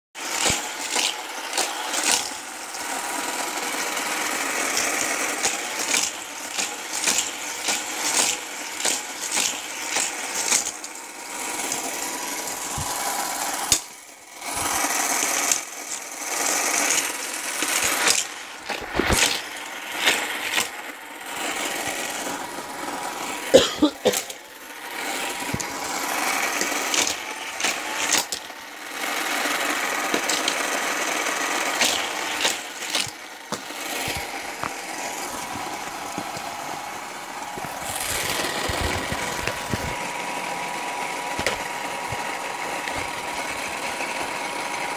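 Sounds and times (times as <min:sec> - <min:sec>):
toy motorized wheels whirring: 0:00.2 - 0:44.9.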